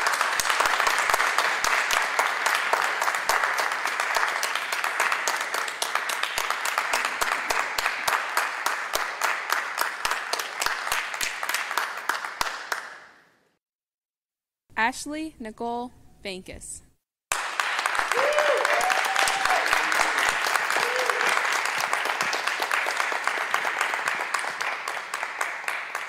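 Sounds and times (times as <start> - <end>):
audience applauding: 0.0 - 13.0, 17.3 - 26.0.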